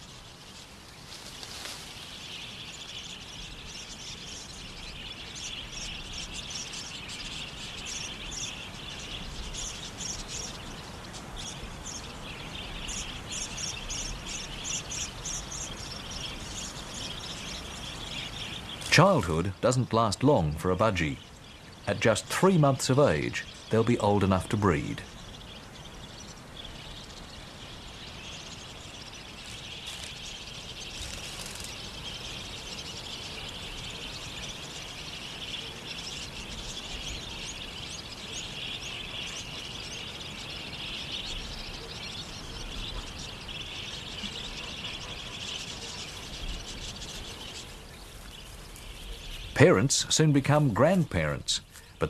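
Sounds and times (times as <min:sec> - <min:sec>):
budgerigars chattering: 0:01.4 - 0:52.0.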